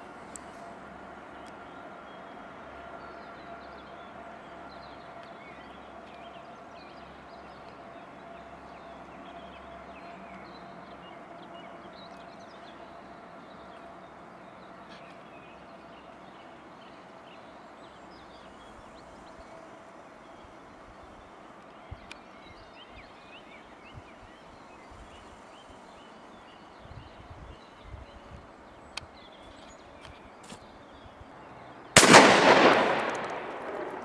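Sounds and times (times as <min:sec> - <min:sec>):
faint constant hum: 0:00.0 - 0:34.0
outdoor background hiss: 0:00.0 - 0:34.0.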